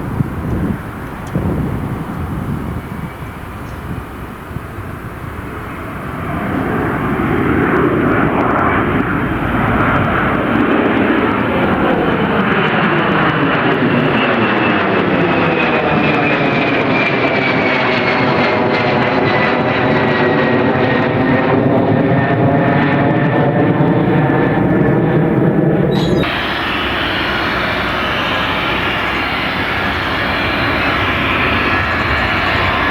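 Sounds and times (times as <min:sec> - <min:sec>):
jet airliner engines passing: 0:00.0 - 0:32.9.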